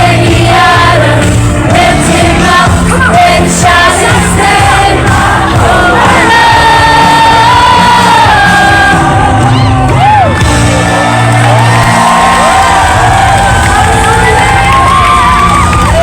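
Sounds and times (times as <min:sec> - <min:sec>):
live praise music with singing: 0:00.0 - 0:16.0.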